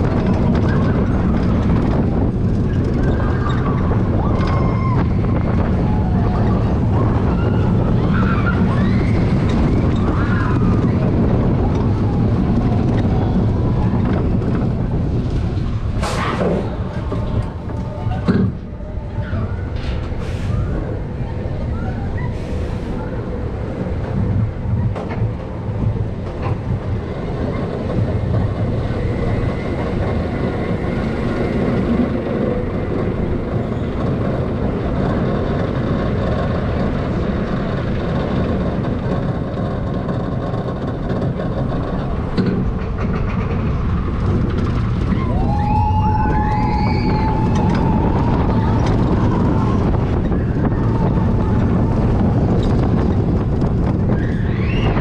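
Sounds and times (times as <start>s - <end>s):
roller coaster wheels rumbling: 0.0s - 55.0s.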